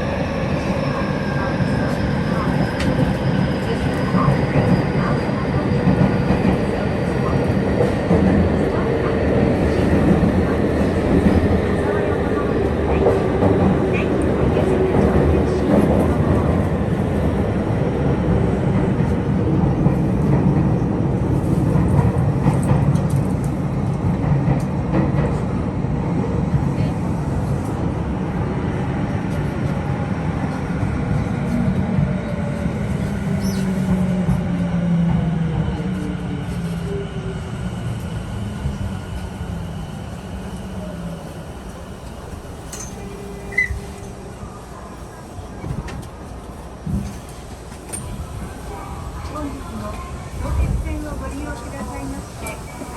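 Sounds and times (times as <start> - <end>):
electric train rumbling: 0.0 - 52.9.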